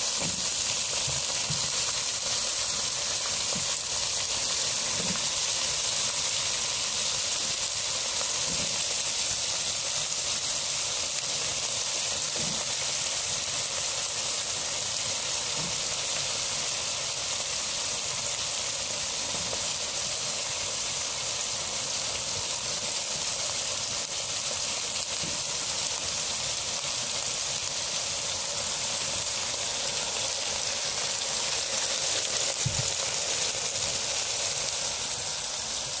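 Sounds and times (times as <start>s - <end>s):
vegetables sizzling in curry: 0.0s - 36.0s.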